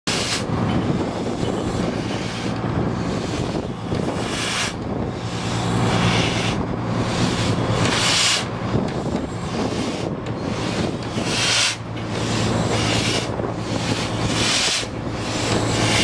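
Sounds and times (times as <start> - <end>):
steam hissing: 0.1 - 16.0
steam locomotive low hum: 0.1 - 16.0
wind on microphone: 0.1 - 16.0.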